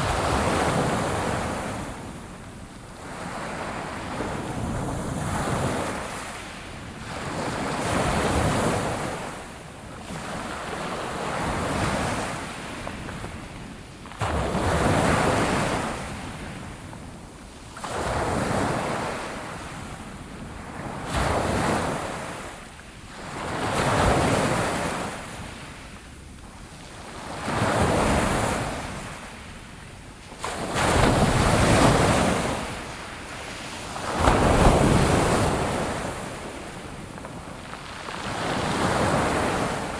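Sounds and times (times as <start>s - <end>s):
ocean waves breaking on shore: 0.0s - 25.9s, 26.6s - 39.9s.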